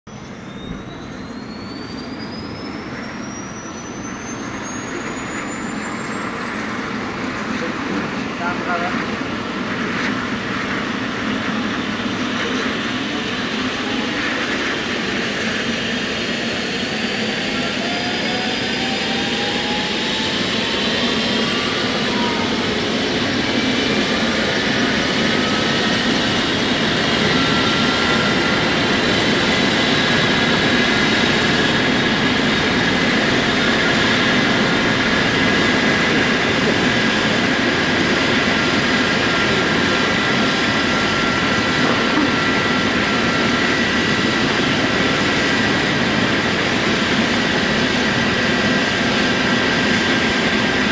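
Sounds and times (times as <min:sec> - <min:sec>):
helicopter turbine whine: 0:00.1 - 0:50.9
constant rushing noise: 0:00.6 - 0:50.9.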